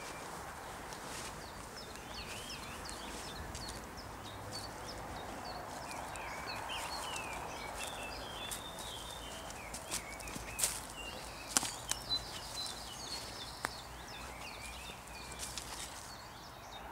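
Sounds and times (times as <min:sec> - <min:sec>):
footsteps on leaf litter: 0:00.0 - 0:16.4
birds chirping and warbling: 0:00.0 - 0:16.9.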